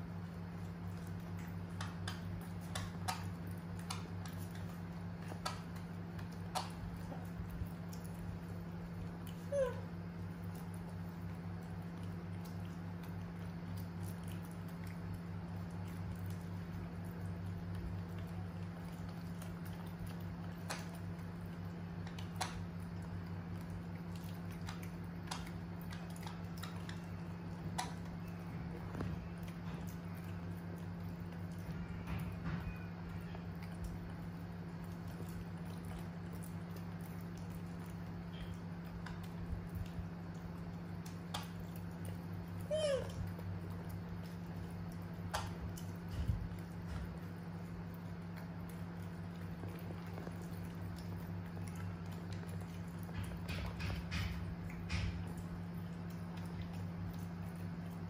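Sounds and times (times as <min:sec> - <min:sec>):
sharp wet clicks: 0:00.0 - 0:32.0, 0:32.7 - 0:58.0
monkeys eating and chewing: 0:00.0 - 0:58.0
steady low hum: 0:00.0 - 0:58.0.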